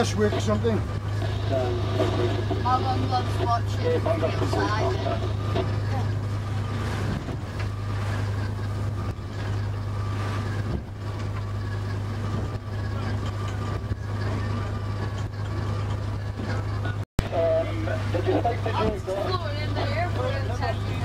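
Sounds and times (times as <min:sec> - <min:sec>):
boat engine droning: 0:00.0 - 0:21.0
waves splashing against hull: 0:00.0 - 0:21.0.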